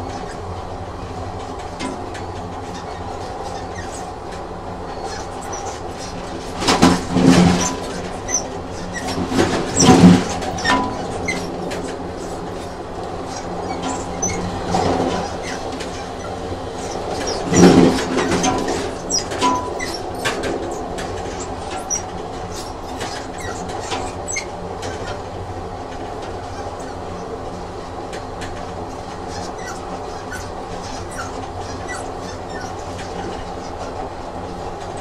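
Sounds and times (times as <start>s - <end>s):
high wheel squeaks: 0.0s - 35.0s
train rumbling on rails: 0.0s - 35.0s
wheels clicking over track: 0.0s - 35.0s.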